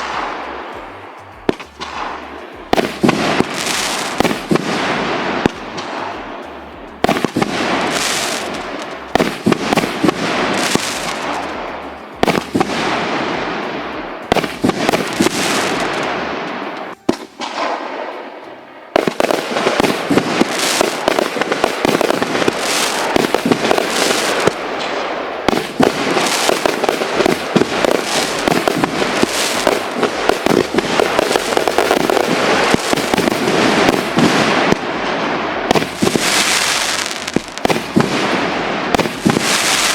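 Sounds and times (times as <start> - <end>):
firework shots bursting: 0.0 - 6.4, 7.0 - 18.1, 19.0 - 39.9.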